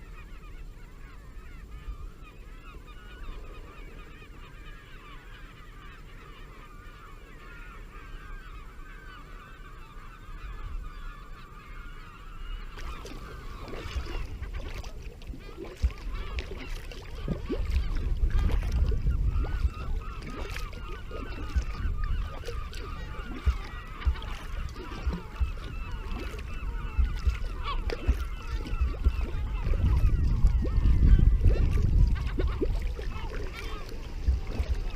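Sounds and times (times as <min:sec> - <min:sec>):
flock of birds calling: 0:00.0 - 0:34.9.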